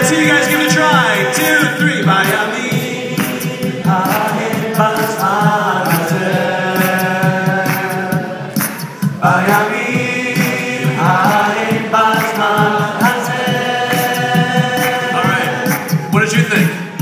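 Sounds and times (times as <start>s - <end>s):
male group singing in harmony: 0.0s - 16.4s
beatboxed vocal percussion: 0.0s - 17.0s.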